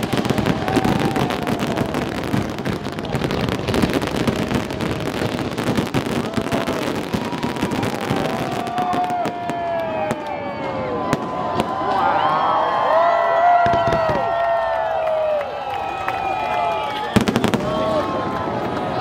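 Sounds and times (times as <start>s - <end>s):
fireworks bangs and crackling: 0.0s - 12.2s, 13.4s - 14.6s, 16.8s - 19.0s.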